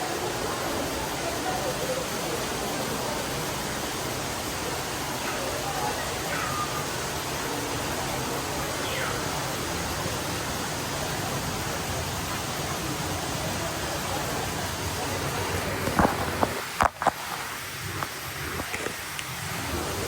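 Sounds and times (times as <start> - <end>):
faint voices: 0.0 - 20.0
falling water hissing: 0.0 - 20.0.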